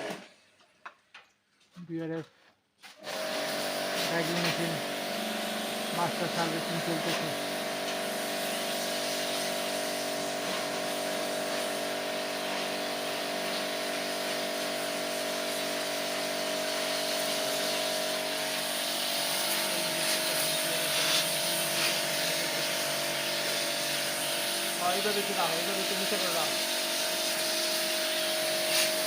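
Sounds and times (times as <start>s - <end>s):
pressure washer motor hum and hiss: 3.0s - 29.0s.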